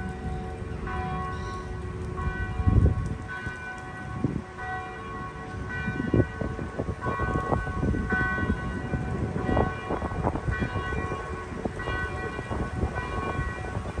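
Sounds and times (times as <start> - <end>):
distant church bells ringing: 0.0 - 14.0.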